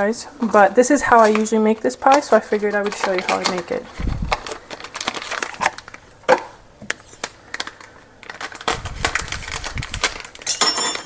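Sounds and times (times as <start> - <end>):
packaging rustling: 0.4 - 11.0.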